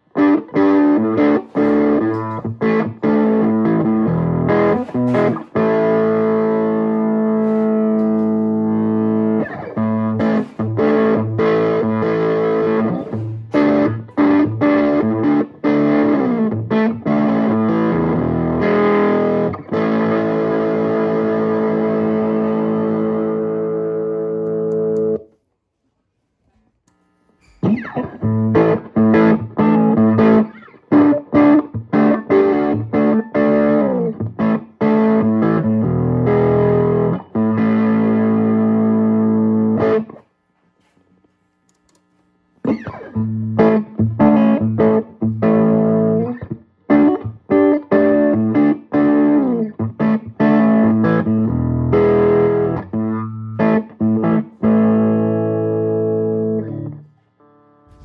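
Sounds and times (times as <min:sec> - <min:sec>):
overdriven electric guitar: 0:00.0 - 0:25.4, 0:27.4 - 0:41.0, 0:42.6 - 0:58.0.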